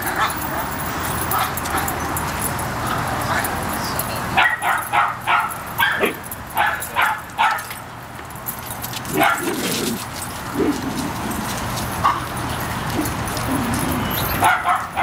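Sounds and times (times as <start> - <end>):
dogs yipping and barking: 0.0 - 15.0.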